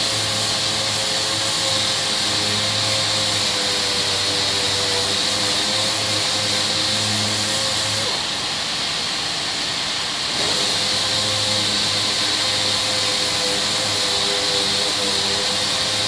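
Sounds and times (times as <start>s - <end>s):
power sander running: 0.0s - 8.4s, 10.2s - 16.0s.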